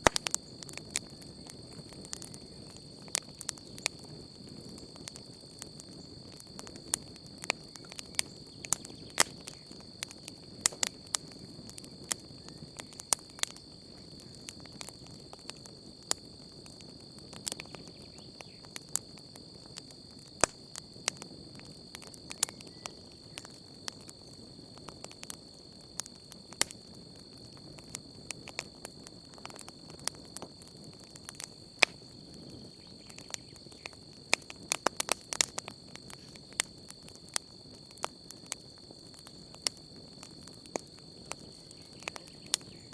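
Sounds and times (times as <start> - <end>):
campfire crackling and popping: 0.0 - 42.9
crickets chirring: 0.0 - 42.9.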